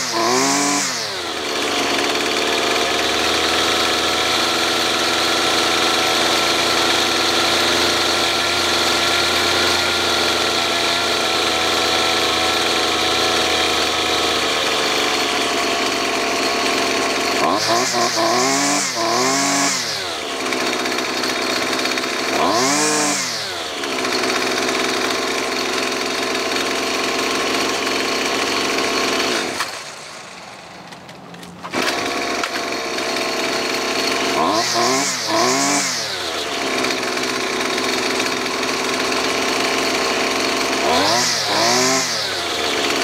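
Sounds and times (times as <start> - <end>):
string trimmer engine idling and revving: 0.0 - 43.0.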